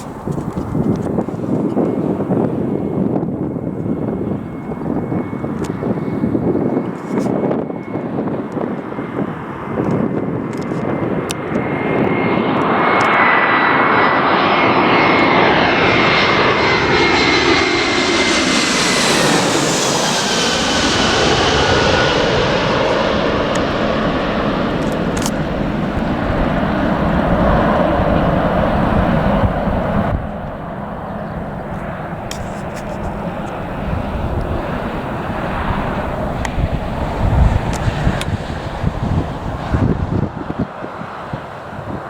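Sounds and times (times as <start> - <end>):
airliner passing low overhead: 0.0 - 42.0.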